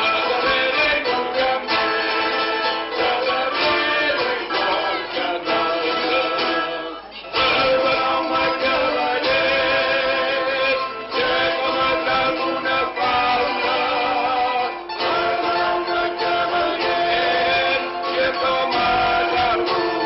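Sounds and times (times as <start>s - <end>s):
folk dance music with plucked strings: 0.0s - 20.0s.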